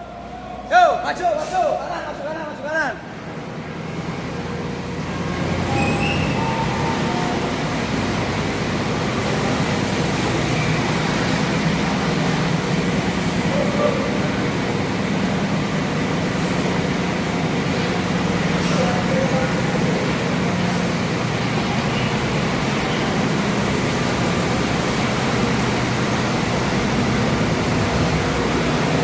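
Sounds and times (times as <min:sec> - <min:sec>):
bus diesel engine pulling: 0:00.0 - 0:29.0.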